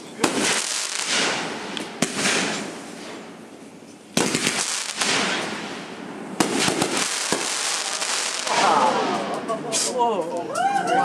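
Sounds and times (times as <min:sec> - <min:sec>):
firework bang: 0:00.0 - 0:03.4, 0:04.1 - 0:09.9
firework crackling hiss: 0:00.0 - 0:03.4, 0:04.1 - 0:10.0.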